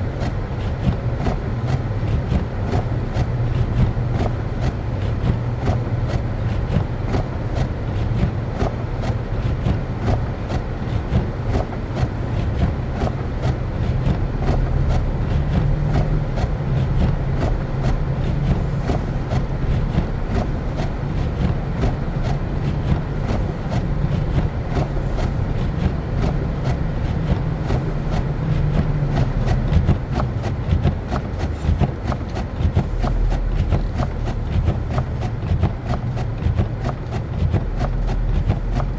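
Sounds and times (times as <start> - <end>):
car engine and tyres rumbling: 0.0 - 38.9
small irregular clicks: 0.1 - 38.9.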